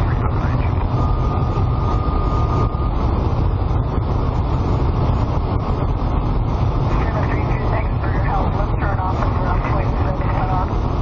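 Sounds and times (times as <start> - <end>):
wind and engine roar: 0.0 - 11.0.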